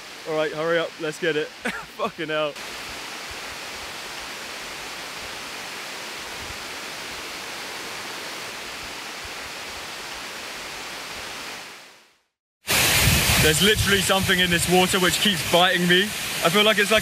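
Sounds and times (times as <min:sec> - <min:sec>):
waterfall rushing: 0:00.0 - 0:11.8, 0:12.7 - 0:17.0.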